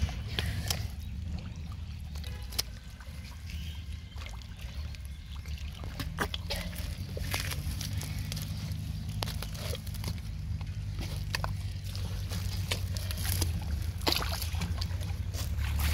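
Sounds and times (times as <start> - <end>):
steady low rumble: 0.0 - 15.9
wet mud squelches: 0.0 - 15.9.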